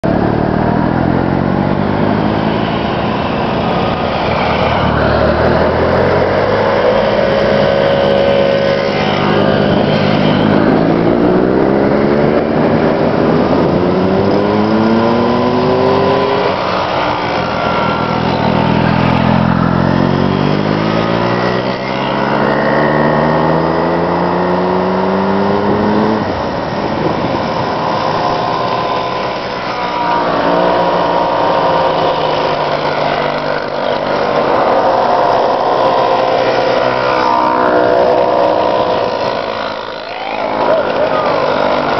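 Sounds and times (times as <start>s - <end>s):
moped engines running: 0.1s - 41.9s.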